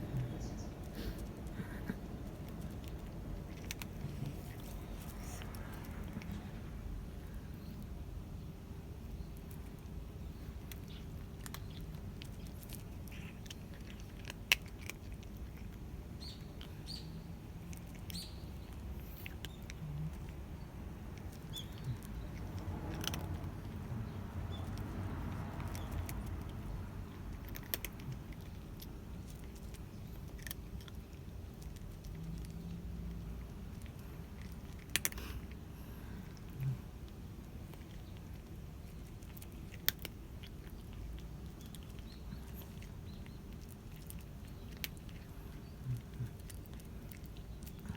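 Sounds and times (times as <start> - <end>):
cat chewing food: 0.0 - 47.9.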